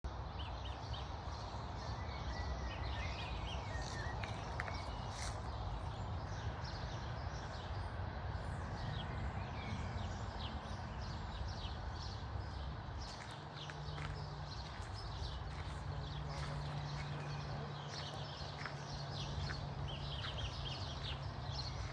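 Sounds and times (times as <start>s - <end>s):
small birds chirping: 0.1s - 21.9s.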